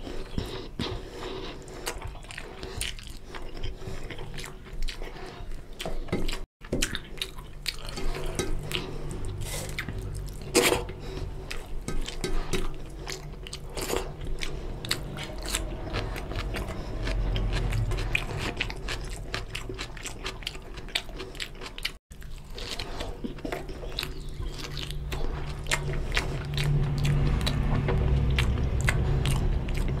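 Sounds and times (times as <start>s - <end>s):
wet chewing: 0.0s - 30.0s.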